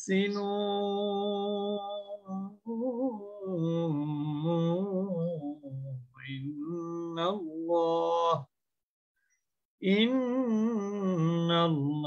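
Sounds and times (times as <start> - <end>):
melodic religious recitation: 0.0 - 8.5, 9.8 - 12.0.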